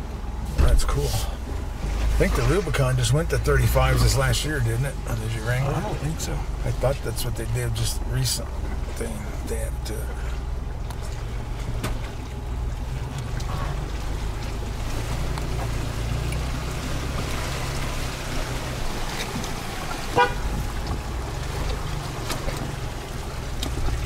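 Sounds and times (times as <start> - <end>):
car engine at low revs: 0.0 - 24.0
tyres through water and stones: 0.0 - 24.0.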